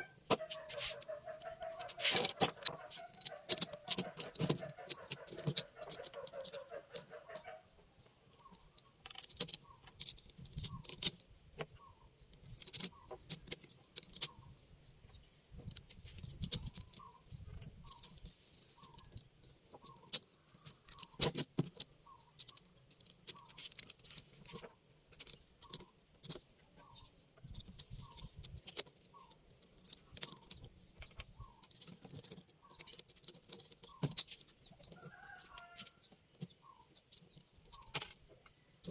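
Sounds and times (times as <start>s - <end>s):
metal tools clinking: 0.3s - 11.8s, 15.6s - 26.4s, 27.4s - 38.9s.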